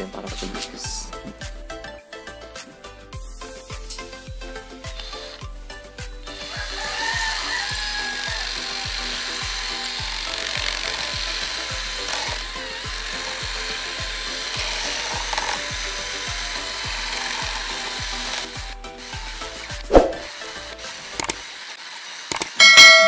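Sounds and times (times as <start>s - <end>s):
background music with steady beat: 0.0s - 21.4s
power drill grinding: 3.9s - 22.6s.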